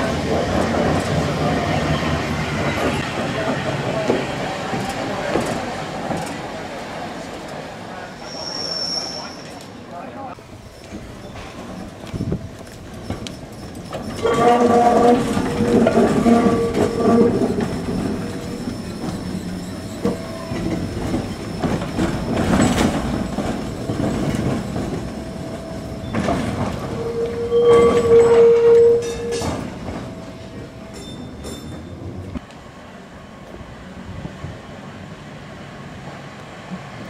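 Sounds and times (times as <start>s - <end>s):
electric tram rumbling past: 0.0s - 37.0s.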